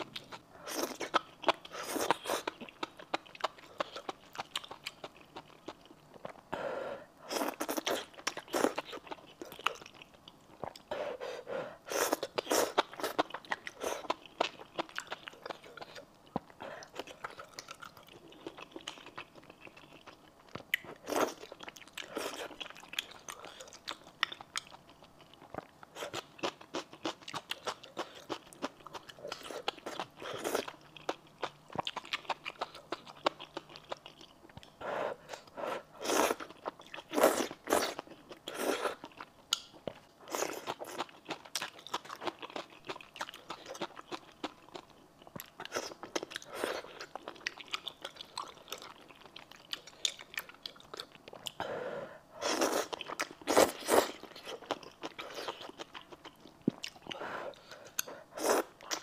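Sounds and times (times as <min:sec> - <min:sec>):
person chewing and crunching: 0:00.0 - 0:06.5, 0:07.3 - 0:10.9, 0:11.8 - 0:51.6, 0:52.4 - 0:59.0.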